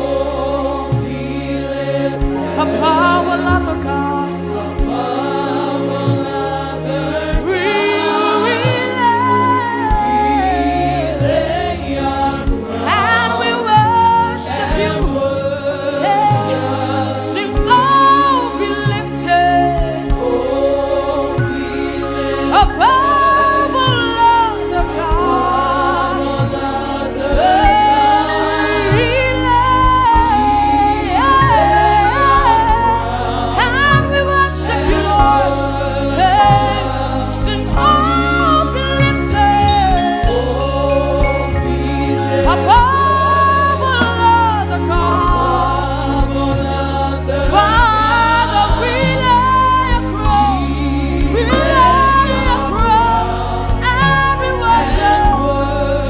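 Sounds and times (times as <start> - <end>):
backing voices: 0.0 - 56.0
gospel singing: 0.0 - 56.0
instrumental accompaniment: 0.0 - 56.0
sustained bass: 0.0 - 56.0.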